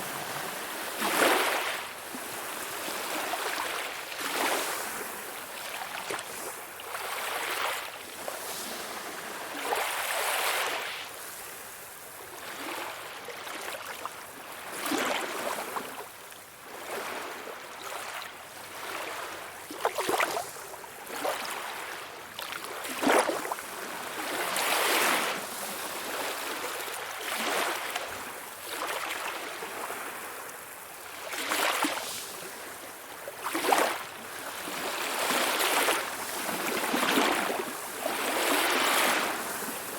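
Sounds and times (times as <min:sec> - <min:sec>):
small sea waves lapping: 0:00.0 - 0:39.9.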